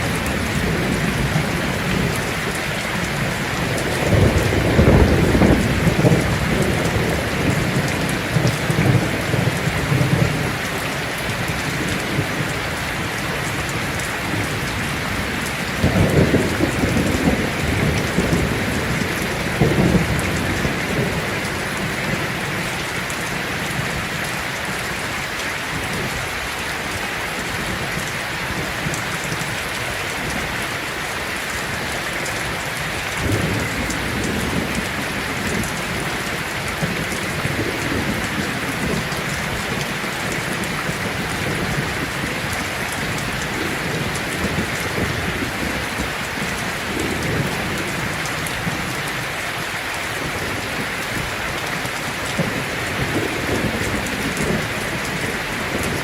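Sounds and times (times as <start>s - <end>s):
thunder rumbling: 0.0s - 24.2s, 32.5s - 49.0s, 50.2s - 56.0s
heavy rain on a tin roof: 0.0s - 56.0s.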